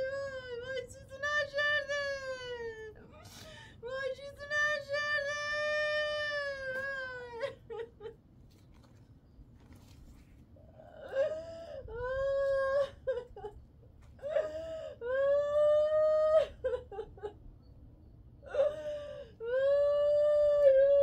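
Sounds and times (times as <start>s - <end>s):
person sobbing: 0.0s - 8.2s, 10.7s - 17.4s, 18.4s - 21.0s.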